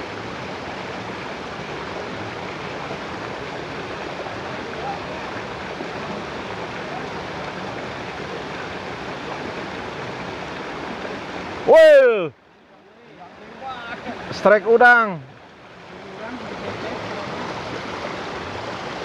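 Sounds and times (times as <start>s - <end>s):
stream running over stones: 0.0s - 19.0s.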